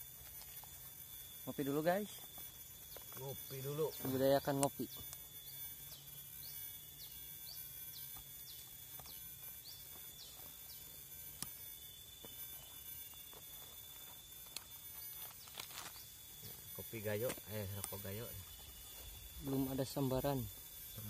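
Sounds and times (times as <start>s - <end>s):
insect drone: 0.0s - 21.0s
bird chirping: 0.7s - 21.0s.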